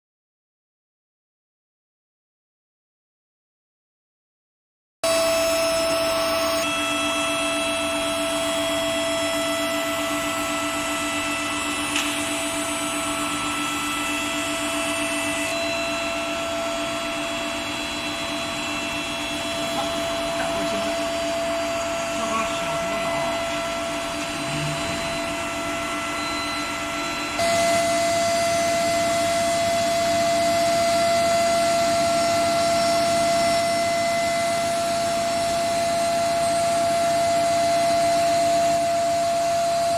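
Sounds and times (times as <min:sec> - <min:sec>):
furnace electrical hum: 0:05.1 - 0:39.9.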